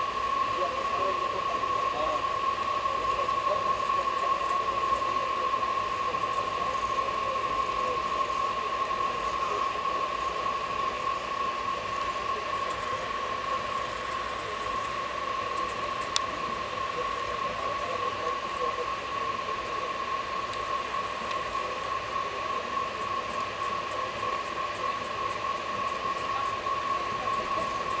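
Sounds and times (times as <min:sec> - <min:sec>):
high-pitched whine: 0:00.0 - 0:28.0
train coach running noise: 0:00.0 - 0:28.0.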